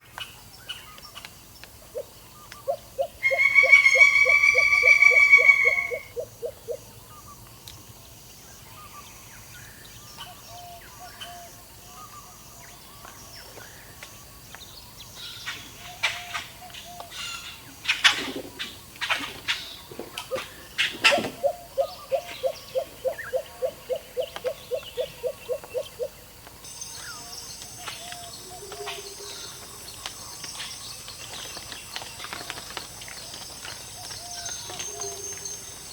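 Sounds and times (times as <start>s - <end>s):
birds calling and chirping: 0.2s - 35.9s.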